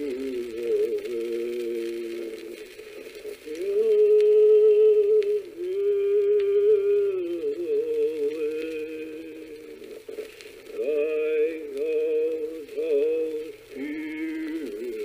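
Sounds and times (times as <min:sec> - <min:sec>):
man singing long notes: 0:00.0 - 0:02.7, 0:03.4 - 0:15.0.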